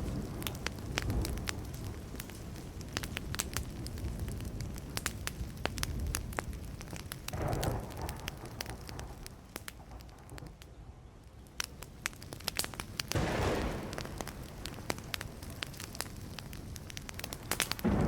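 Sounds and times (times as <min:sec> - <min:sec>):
fire rushing: 0:00.0 - 0:18.0
wood fire crackling: 0:00.0 - 0:18.0.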